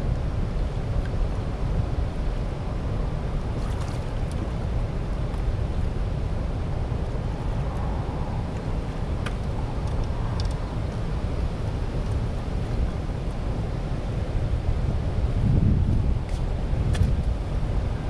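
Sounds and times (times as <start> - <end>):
churning water roar: 0.0 - 18.0
wind buffeting the microphone: 0.0 - 18.0.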